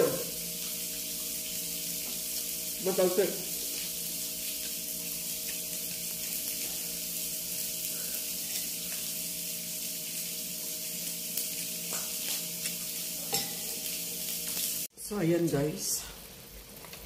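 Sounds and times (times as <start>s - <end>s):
food sizzling on a grill pan: 0.0s - 17.0s.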